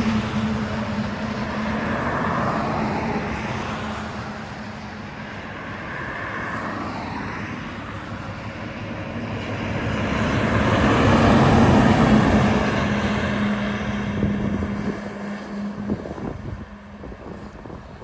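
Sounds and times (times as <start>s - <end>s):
heavy truck driving past: 0.0s - 5.2s, 7.6s - 17.6s.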